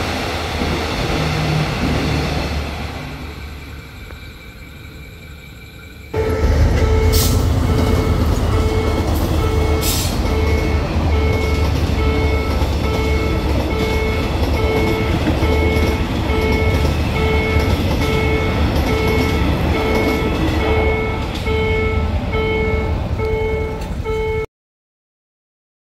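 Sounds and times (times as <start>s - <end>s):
train rumbling over crossing: 0.0s - 24.4s
crossing warning signal pulses: 3.0s - 24.5s.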